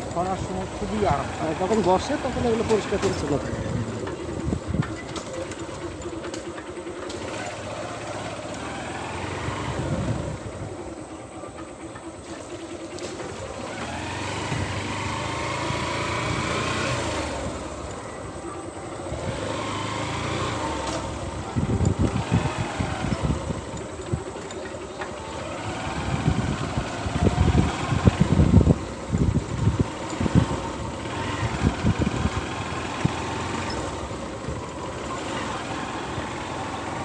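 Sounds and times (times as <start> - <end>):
motor vehicle engine running: 0.0 - 37.0.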